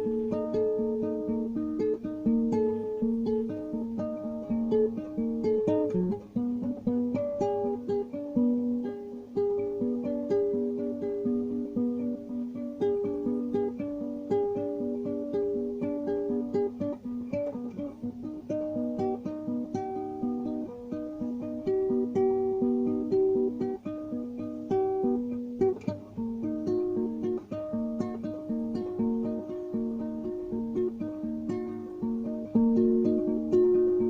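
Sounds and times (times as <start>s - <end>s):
fingerstyle guitar: 0.0s - 34.0s.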